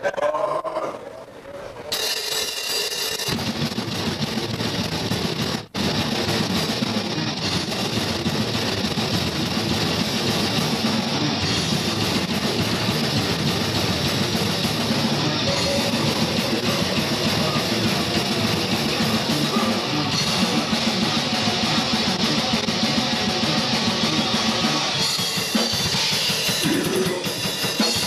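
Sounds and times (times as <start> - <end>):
live band with distorted guitar: 1.9 - 28.0.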